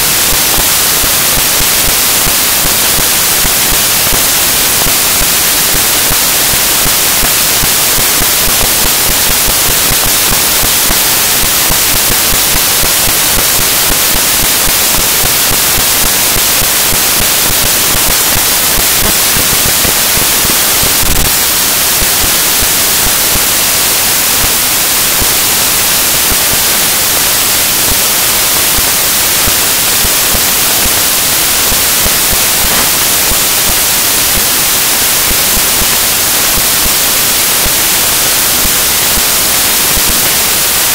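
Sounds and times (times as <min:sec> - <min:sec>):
loud static hiss: 0:00.0 - 0:40.9.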